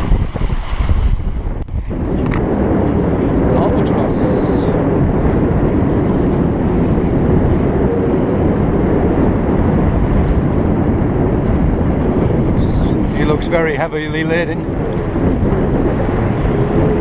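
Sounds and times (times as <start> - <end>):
water rushing along hulls: 0.0 - 17.0
wind buffeting microphone: 0.0 - 17.0.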